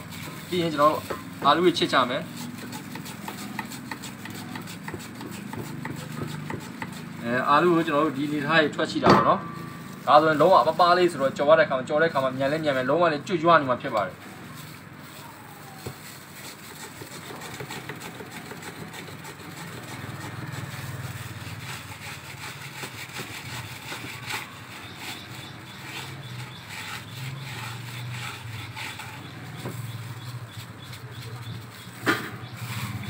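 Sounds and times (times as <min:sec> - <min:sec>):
potato scraping on slicer blade: 0:00.0 - 0:11.4, 0:15.6 - 0:33.0.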